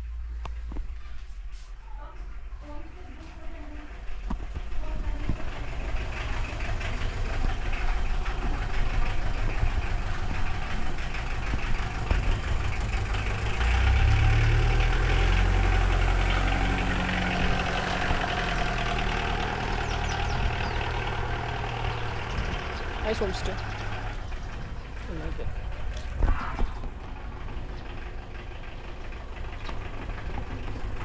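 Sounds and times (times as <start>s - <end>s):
low steady rumbling: 0.0s - 31.0s
vehicle engine idling: 0.0s - 31.0s.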